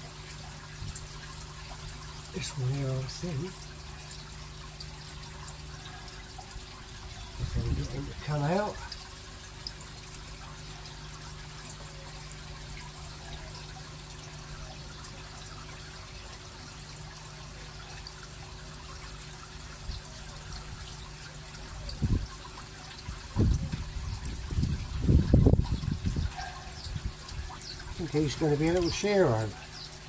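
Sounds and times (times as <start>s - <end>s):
water pouring into tub: 0.0s - 30.0s.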